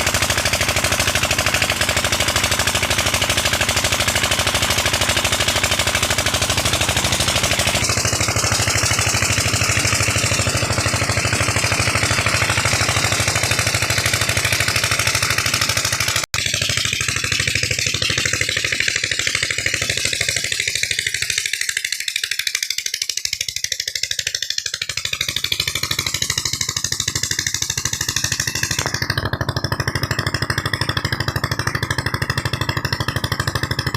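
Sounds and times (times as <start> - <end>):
diesel pump engine clattering: 0.0 - 33.9.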